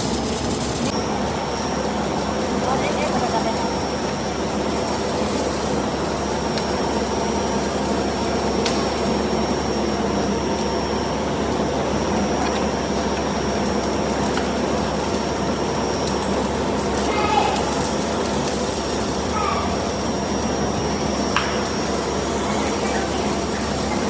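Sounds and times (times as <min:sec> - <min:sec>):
factory machinery hum: 0:00.0 - 0:24.0.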